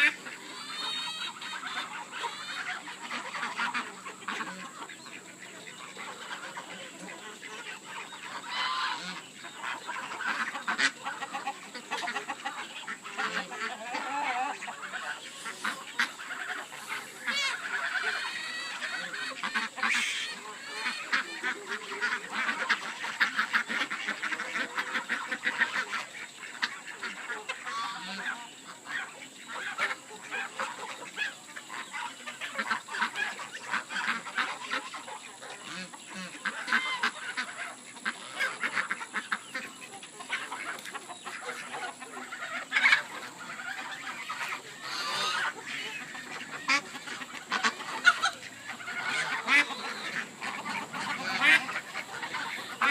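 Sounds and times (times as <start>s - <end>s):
geese honking: 0.0s - 52.9s
poultry calling: 0.0s - 52.9s.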